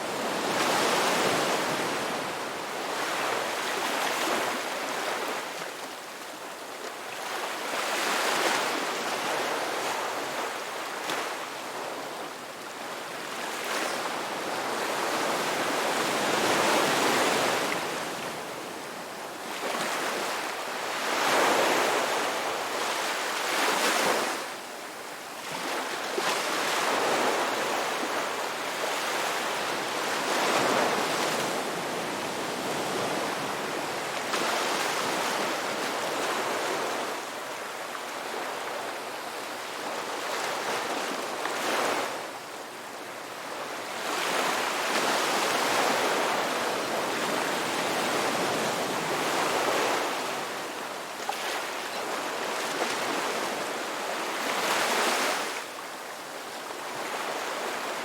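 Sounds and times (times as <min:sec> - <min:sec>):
ocean waves breaking on shore: 0:00.0 - 0:06.2, 0:07.0 - 0:24.6, 0:25.3 - 0:58.0.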